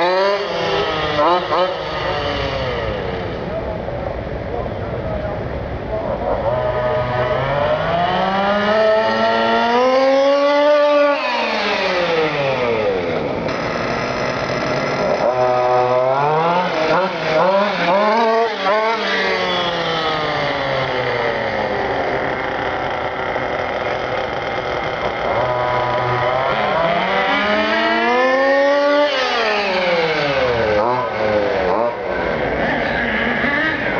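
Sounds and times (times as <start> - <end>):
radio-controlled car engine revving: 0.0 - 3.9, 5.9 - 33.9.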